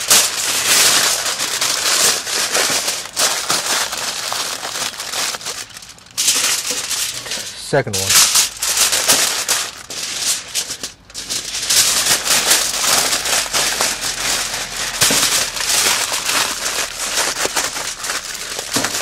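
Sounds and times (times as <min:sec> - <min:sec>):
aluminium foil crinkling: 0:00.0 - 0:19.0.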